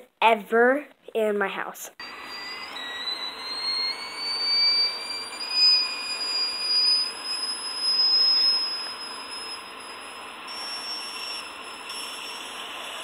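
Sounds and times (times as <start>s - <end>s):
kettle whistling: 2.0s - 13.0s
steam hissing: 2.0s - 13.0s.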